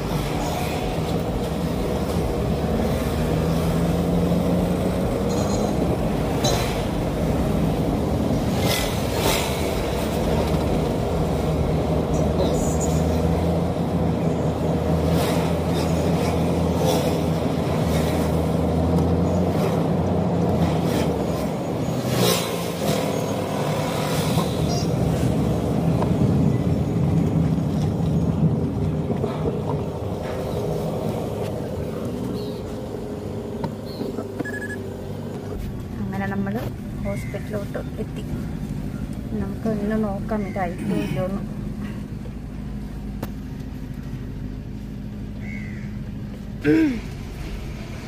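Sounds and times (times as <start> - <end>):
car engine and tyre hum: 0.0 - 48.0.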